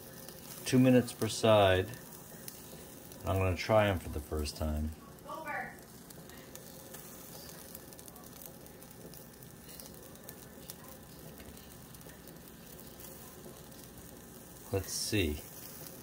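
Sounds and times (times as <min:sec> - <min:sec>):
mushroom sizzling in a dry pan: 0:00.0 - 0:16.0
small crackles: 0:00.0 - 0:16.0.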